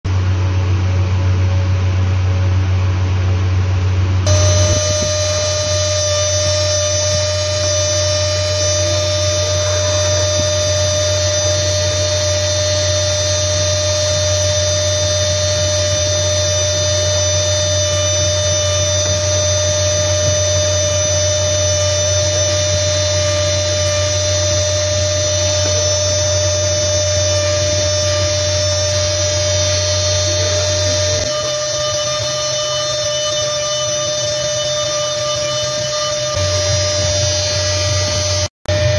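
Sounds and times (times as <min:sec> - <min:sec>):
rotary tool whining on metal: 0:04.2 - 0:38.9.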